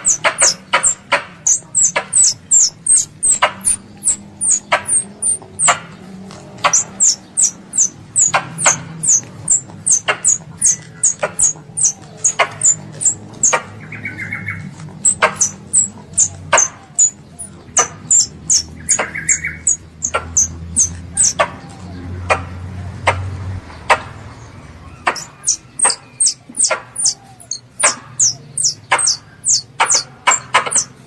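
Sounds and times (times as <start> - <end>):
young squirrel chirping: 0.0 - 6.0, 6.6 - 21.6, 24.8 - 31.0
squirrel buzzy trills: 0.0 - 21.7, 24.8 - 31.0.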